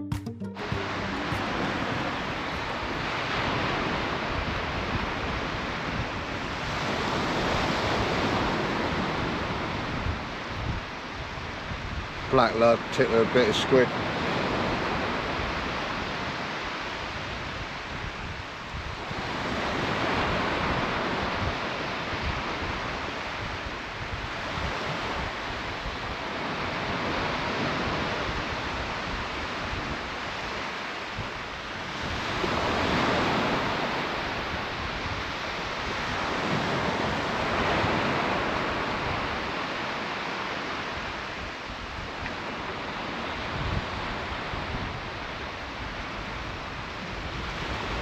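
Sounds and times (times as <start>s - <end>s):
sea waves breaking on shore: 0.6s - 48.0s
wind buffeting microphone: 1.9s - 12.4s, 13.9s - 48.0s.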